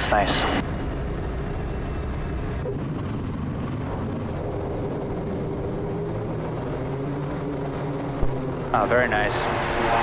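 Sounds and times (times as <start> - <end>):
propeller aircraft engine drone: 0.0 - 10.0.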